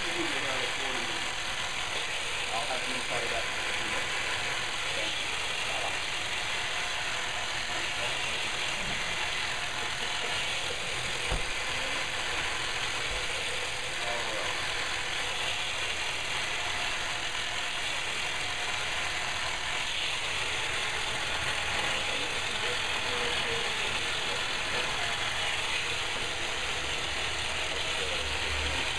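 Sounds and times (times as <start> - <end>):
massage device whirring: 0.0 - 28.9.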